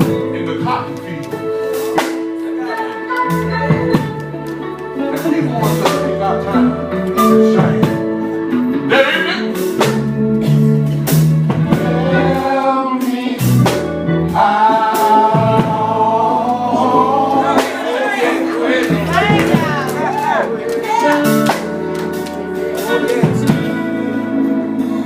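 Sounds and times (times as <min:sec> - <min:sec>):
bass: 0:00.0 - 0:25.0
drums: 0:00.0 - 0:25.0
guitar: 0:00.0 - 0:25.0
person singing: 0:02.3 - 0:09.8, 0:11.7 - 0:25.0.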